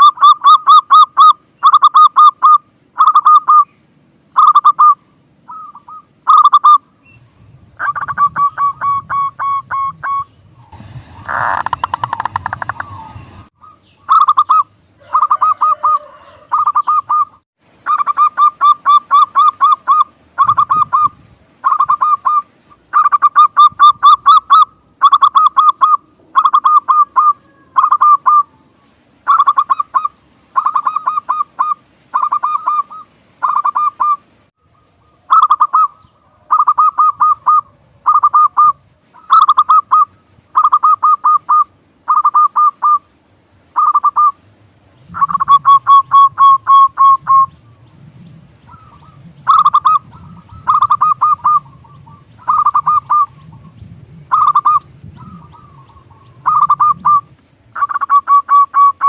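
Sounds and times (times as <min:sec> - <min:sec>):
dove cooing: 0:00.0 - 0:03.7, 0:04.4 - 0:06.8, 0:07.8 - 0:10.3, 0:11.3 - 0:43.1, 0:43.8 - 0:44.4, 0:45.1 - 0:59.0.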